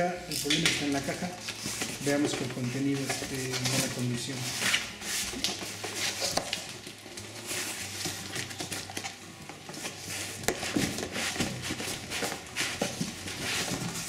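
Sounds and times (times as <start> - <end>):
cardboard and foam scraping: 0.9 - 14.0.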